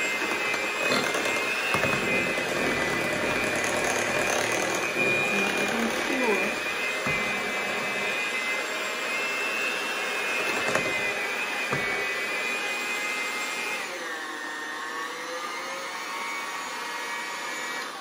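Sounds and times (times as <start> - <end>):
electric mixer motor whine: 0.0 - 18.0.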